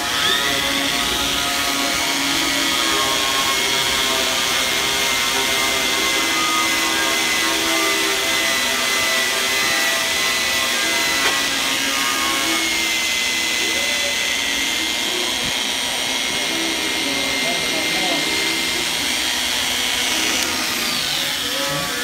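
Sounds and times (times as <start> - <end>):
angle grinder whining on metal: 0.0 - 22.0.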